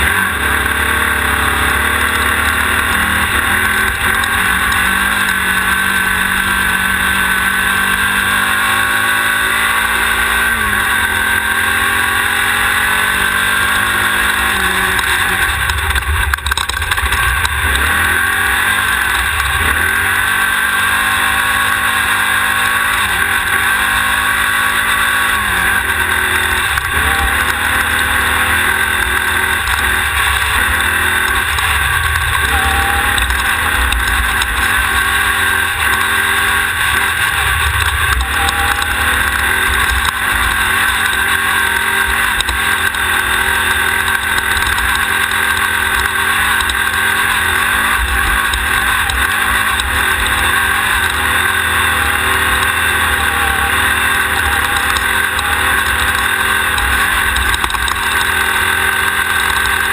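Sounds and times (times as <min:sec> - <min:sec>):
buggy engine running hard: 0:00.0 - 0:59.9.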